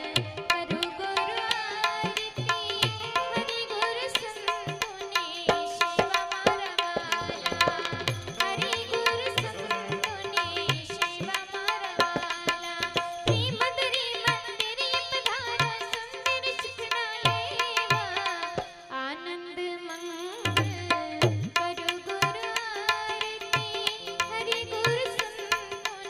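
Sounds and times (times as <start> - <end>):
tabla rhythm: 0.0 - 19.2, 20.1 - 26.0.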